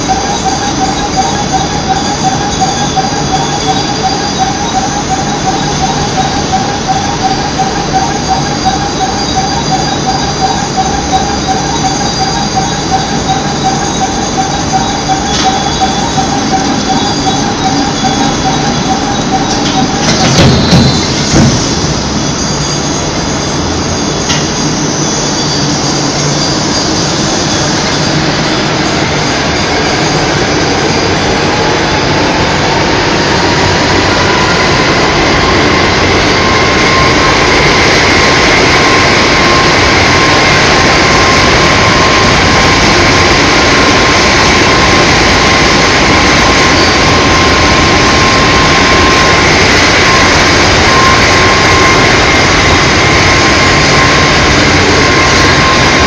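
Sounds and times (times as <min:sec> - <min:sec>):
machine running with high whine: 0:00.0 - 0:56.0.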